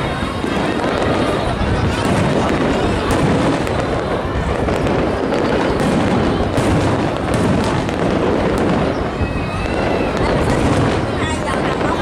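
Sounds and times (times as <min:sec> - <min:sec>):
fireworks booming: 0:00.0 - 0:12.0
fireworks cracking and crackling: 0:00.0 - 0:12.0.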